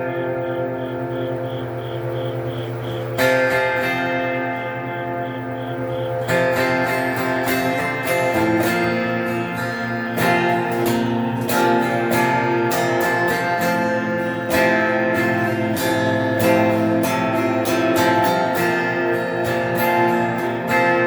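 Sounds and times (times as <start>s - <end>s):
electric guitar strumming chords: 0.0s - 21.0s.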